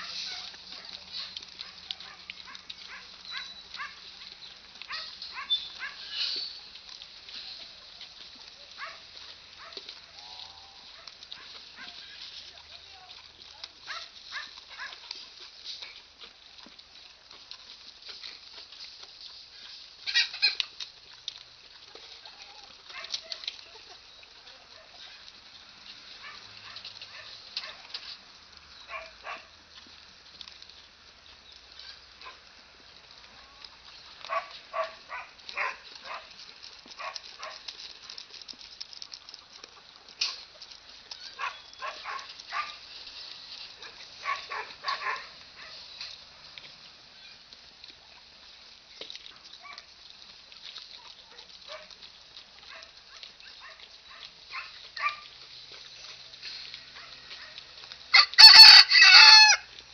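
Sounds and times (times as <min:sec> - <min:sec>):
farm animals calling: 0:00.0 - 0:38.2, 0:39.4 - 0:49.9, 0:52.6 - 0:59.8.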